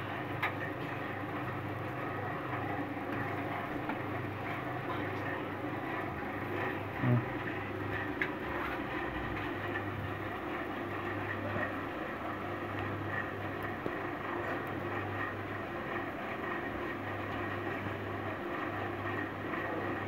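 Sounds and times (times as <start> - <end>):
low background hum and rumble: 0.0 - 20.0.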